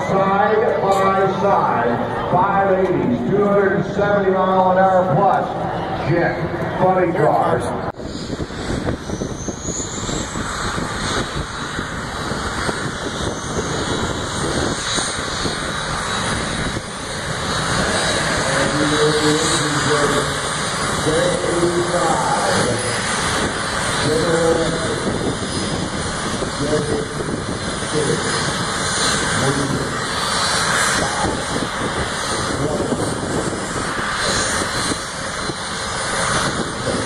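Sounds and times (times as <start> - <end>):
jet engine roar and whine: 0.0 - 37.0.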